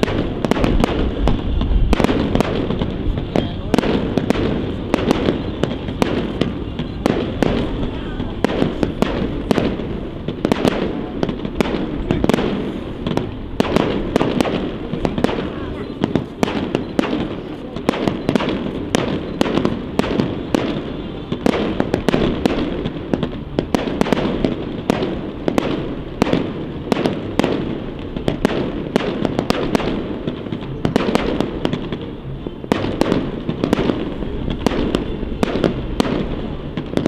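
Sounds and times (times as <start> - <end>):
continuous rumble: 0.0 - 37.0
fireworks bangs and crackles: 0.0 - 37.0.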